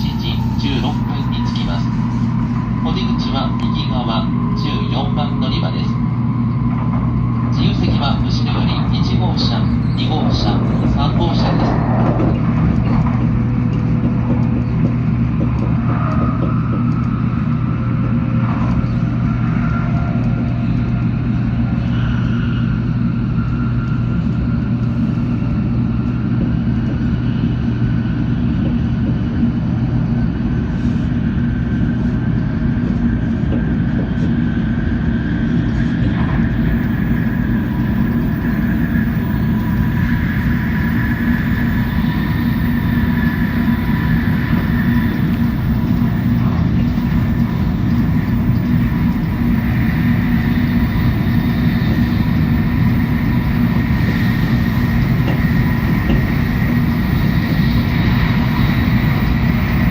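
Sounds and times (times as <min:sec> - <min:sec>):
train rumble inside passenger car: 0:00.0 - 0:59.9.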